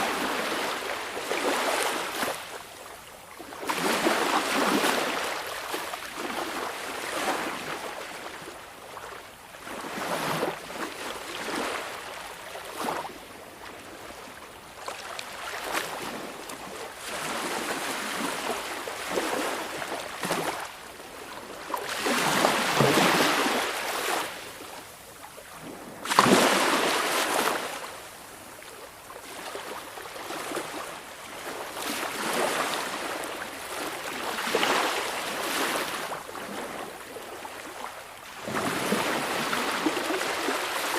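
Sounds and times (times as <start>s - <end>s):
small waves washing onto shore: 0.0s - 40.9s.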